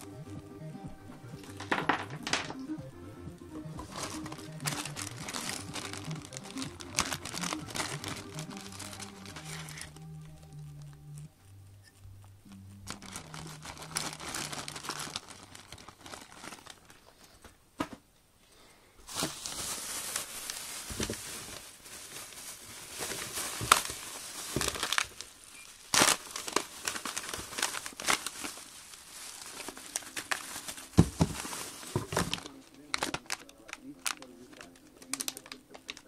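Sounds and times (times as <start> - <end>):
bubble wrap and plastic bags rustling: 0.0 - 18.0, 18.6 - 36.0
plastic packaging crinkling: 1.3 - 2.8, 3.6 - 17.5, 19.0 - 36.0.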